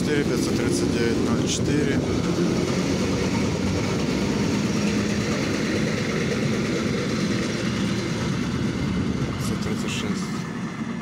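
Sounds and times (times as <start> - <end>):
train passing with wheel rumble: 0.0 - 11.0.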